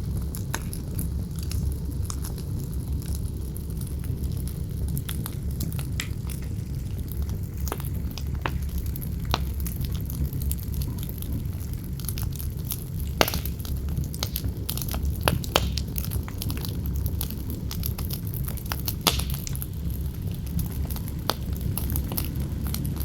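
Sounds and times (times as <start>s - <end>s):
campfire crackling and popping: 0.0s - 23.0s
wind rumble: 0.0s - 23.0s.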